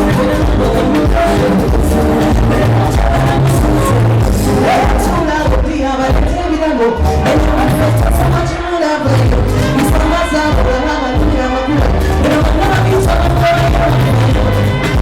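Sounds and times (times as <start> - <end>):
loud music with pulsing bass: 0.0 - 15.0
person singing: 0.0 - 15.0.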